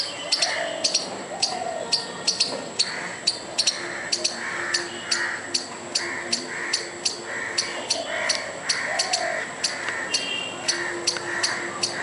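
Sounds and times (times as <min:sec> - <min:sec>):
squirrel alarm call chips: 0:00.0 - 0:12.0.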